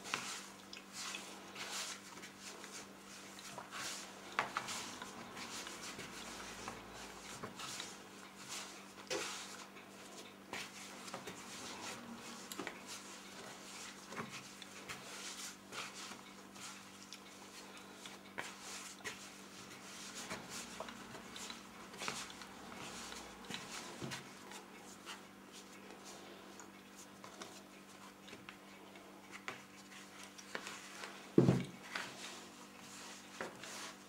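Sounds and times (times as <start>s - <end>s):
hands kneading dough: 0.0s - 34.0s.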